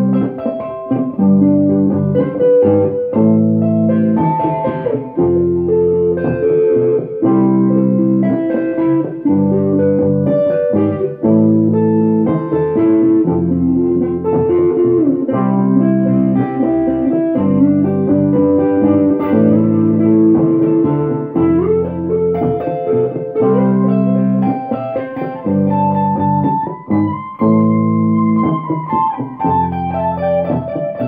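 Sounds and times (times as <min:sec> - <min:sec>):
electric guitar with heavy delay: 0:00.0 - 0:31.0.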